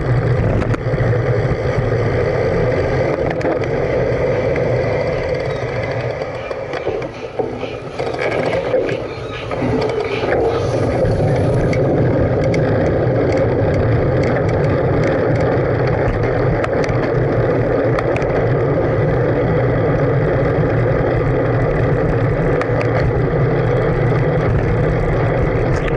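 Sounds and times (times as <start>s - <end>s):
bicycle tyre rumble: 0.0s - 25.9s
wind on microphone: 0.0s - 25.9s.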